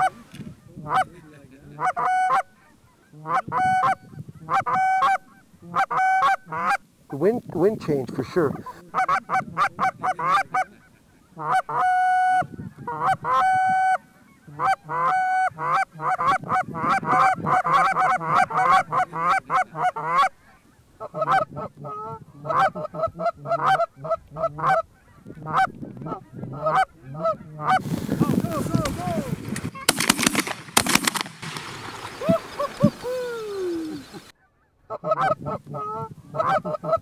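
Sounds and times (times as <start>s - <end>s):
geese honking and clucking: 0.0s - 37.0s.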